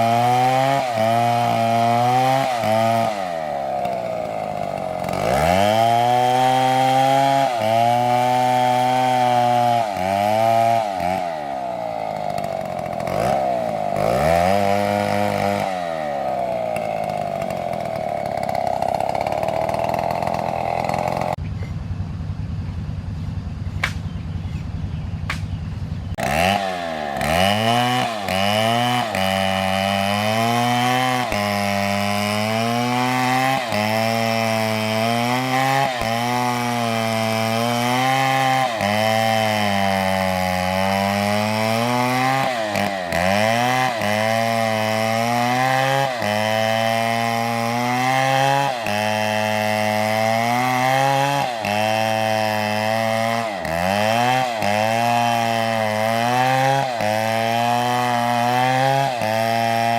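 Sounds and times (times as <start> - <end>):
chainsaw cutting log: 0.0 - 21.4, 23.3 - 24.2, 25.2 - 59.9.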